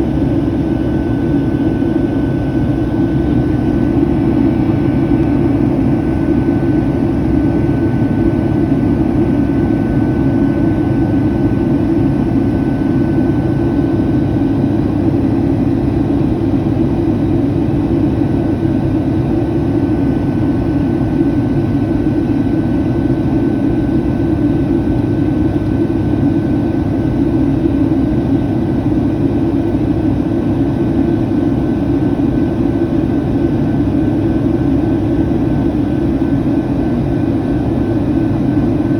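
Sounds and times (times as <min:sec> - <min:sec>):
jet engines and airflow roar: 0:00.0 - 0:38.9.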